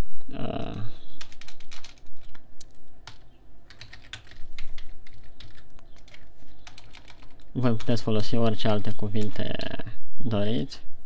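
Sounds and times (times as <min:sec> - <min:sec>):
keyboard typing: 0:00.6 - 0:09.8.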